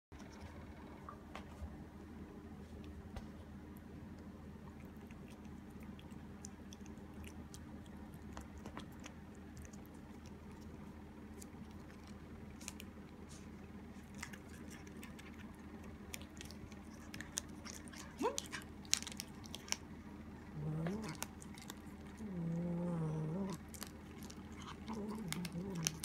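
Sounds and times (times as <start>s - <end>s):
low hum: 0.1s - 26.0s.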